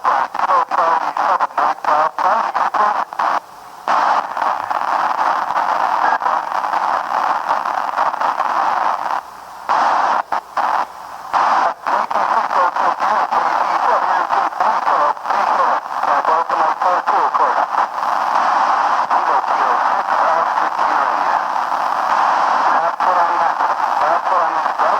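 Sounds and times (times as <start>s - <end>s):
radio static hiss: 0.0s - 24.9s.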